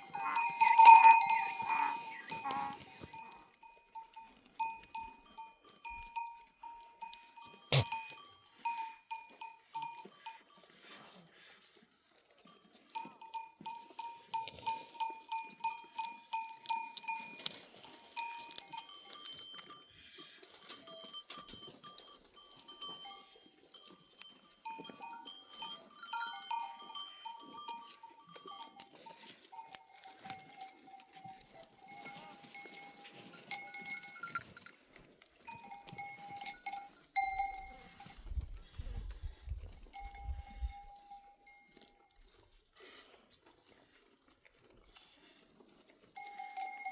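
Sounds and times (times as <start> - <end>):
goat bells clanking: 0.0 - 11.5, 12.3 - 42.5, 46.1 - 46.9.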